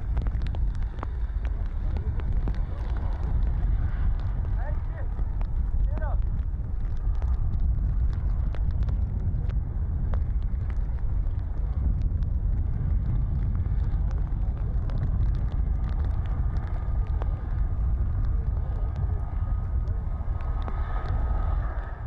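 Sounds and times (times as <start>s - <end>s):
lava spatter pops and crackles: 0.0s - 22.0s
volcano deep rumble: 0.0s - 22.0s.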